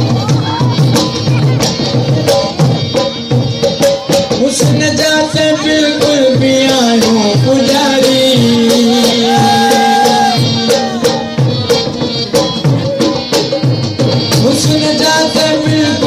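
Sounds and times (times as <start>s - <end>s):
harmonium drone and melody: 0.0s - 16.0s.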